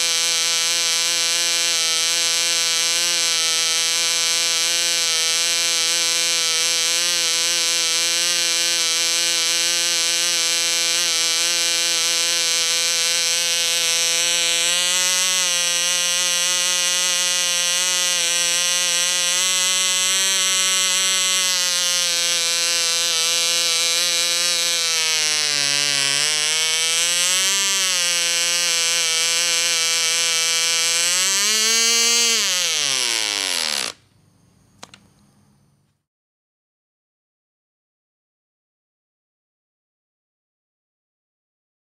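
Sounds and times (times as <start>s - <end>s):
model engine buzzing drone: 0.0s - 34.0s.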